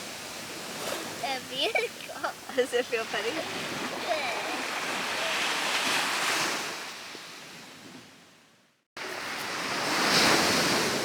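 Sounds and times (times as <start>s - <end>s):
ocean waves washing onto beach: 0.0s - 8.2s, 9.0s - 11.0s.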